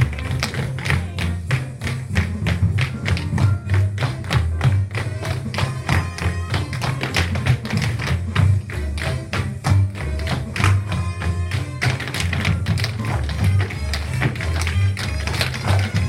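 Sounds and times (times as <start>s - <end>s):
recorded music: 0.0s - 16.0s
tap-dance shoes clicking on floor: 0.0s - 16.0s.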